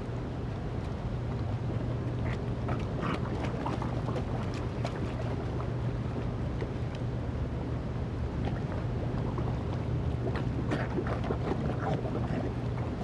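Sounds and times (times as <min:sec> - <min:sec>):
steady low hum: 0:00.0 - 0:13.0
water splashing and sloshing: 0:00.0 - 0:13.0.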